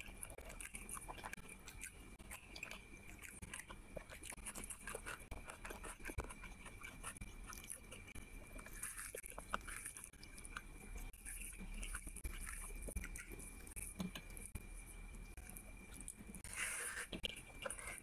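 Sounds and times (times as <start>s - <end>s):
wet chewing with mouth clicks: 0.0s - 18.0s.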